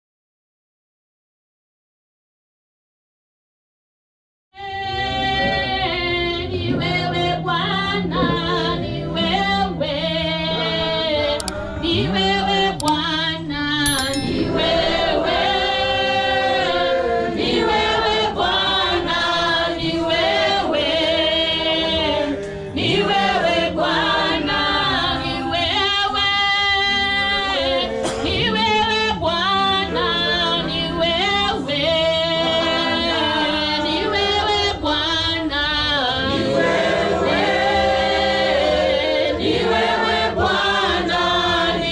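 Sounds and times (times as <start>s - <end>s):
choir singing gospel song: 4.9s - 12.8s, 14.4s - 41.9s.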